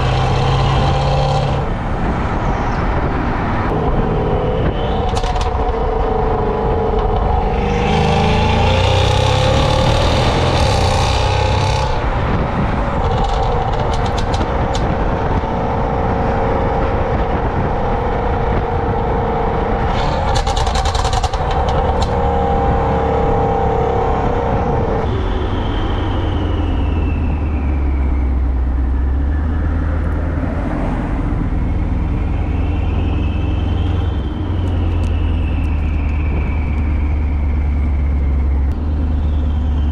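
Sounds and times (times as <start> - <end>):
car exhaust rumbling: 0.0 - 39.9.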